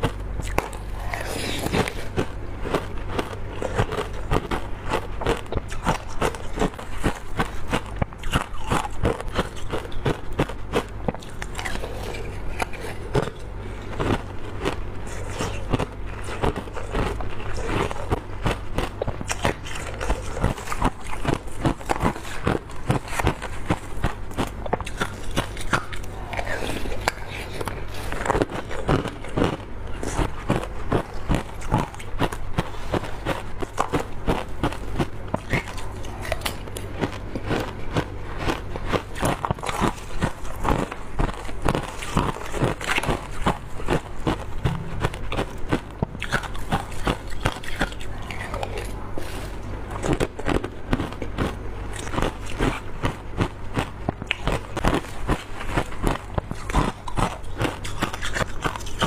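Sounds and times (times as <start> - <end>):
teeth crunching frozen ice: 0.0 - 59.0.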